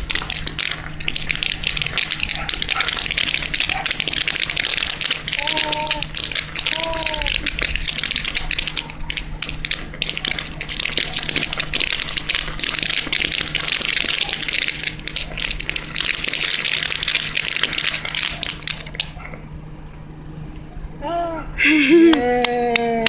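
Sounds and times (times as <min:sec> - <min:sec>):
firework hissing and crackling: 0:00.0 - 0:19.2.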